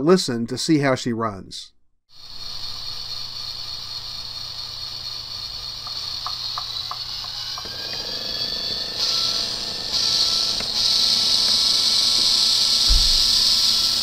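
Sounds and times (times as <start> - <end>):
model locomotive engine sound: 2.1 - 14.0.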